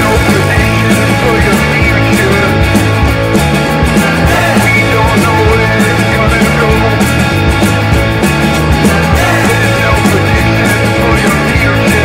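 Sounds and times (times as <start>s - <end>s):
bass guitar: 0.0s - 12.0s
drums with cymbals: 0.0s - 12.0s
electric guitars playing: 0.0s - 12.0s.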